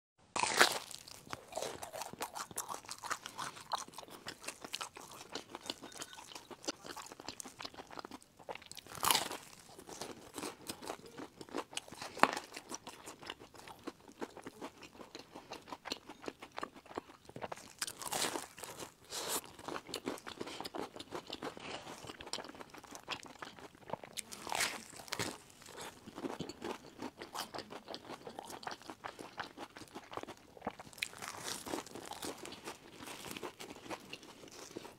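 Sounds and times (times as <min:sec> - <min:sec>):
crunching and chewing: 0:00.4 - 0:34.9.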